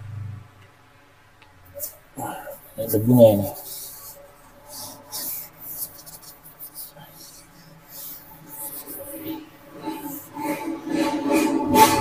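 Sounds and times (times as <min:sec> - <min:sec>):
hands brushing and rubbing laptop: 0:01.8 - 0:12.0.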